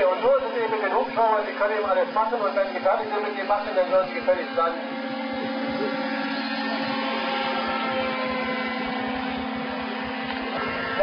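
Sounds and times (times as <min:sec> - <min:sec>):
model helicopter engine buzzing: 0:00.0 - 0:11.0.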